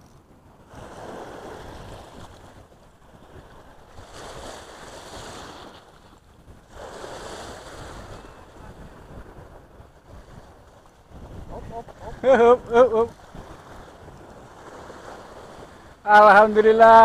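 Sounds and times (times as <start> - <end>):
wind rumble on microphone: 0.0 - 17.0
small waves washing on sand: 0.6 - 17.0.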